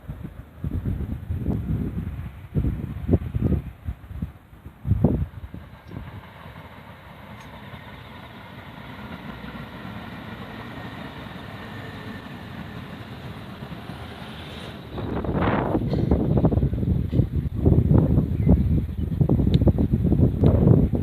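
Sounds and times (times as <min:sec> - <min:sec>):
train rumbling by: 0:00.0 - 0:21.0
wind buffeting microphone: 0:00.0 - 0:21.0.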